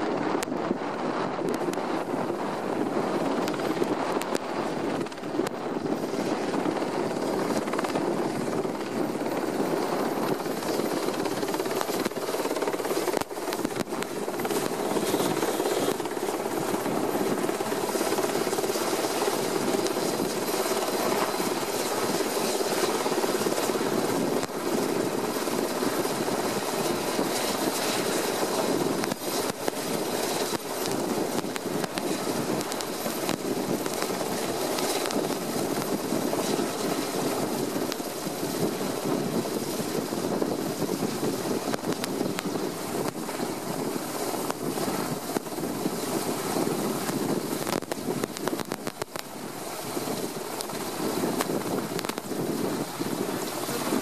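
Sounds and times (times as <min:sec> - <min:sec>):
helicopter rotor and engines: 0:00.0 - 0:54.0
high turbine whine: 0:00.0 - 0:54.0.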